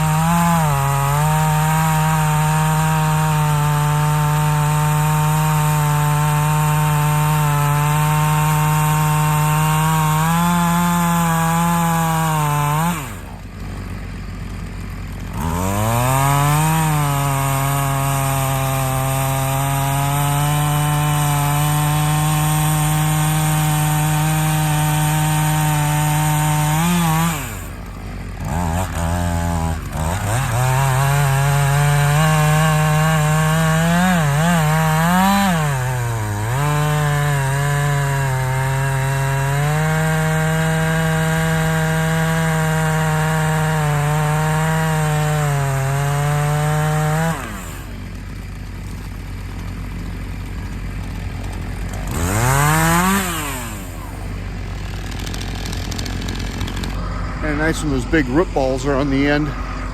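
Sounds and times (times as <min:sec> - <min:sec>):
chainsaw cutting tree: 0:00.0 - 0:59.9
chainsaw idling: 0:00.0 - 0:59.9.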